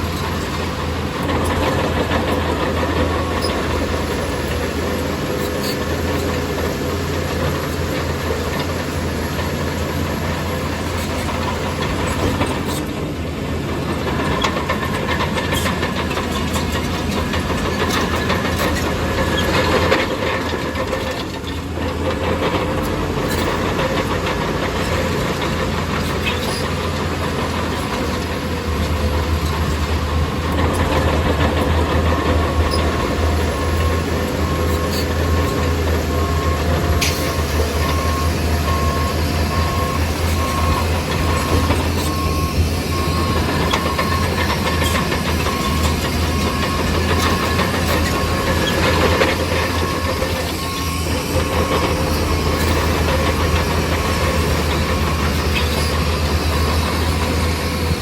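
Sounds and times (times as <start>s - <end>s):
bulldozer diesel engine running: 0.0s - 58.0s
crawler tracks clanking: 0.0s - 58.0s.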